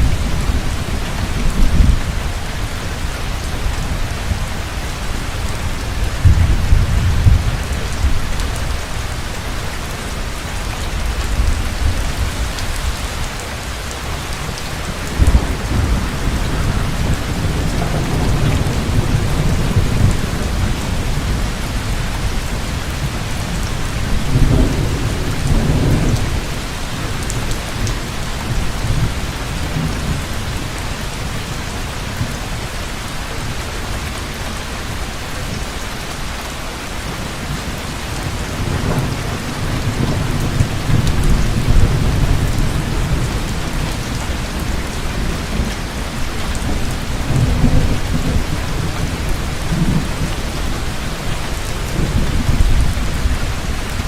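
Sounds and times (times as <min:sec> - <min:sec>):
low thunder rumbling: 0:00.0 - 0:13.1, 0:14.0 - 0:32.4, 0:37.2 - 0:54.0
heavy rain falling: 0:00.0 - 0:54.0.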